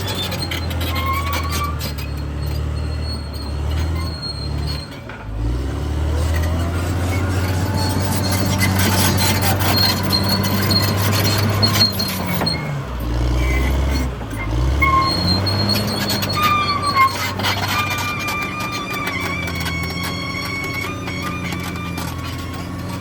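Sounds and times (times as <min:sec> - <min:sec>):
bulldozer diesel engine under load: 0:00.0 - 0:23.0
steel tracks squealing: 0:00.0 - 0:23.0.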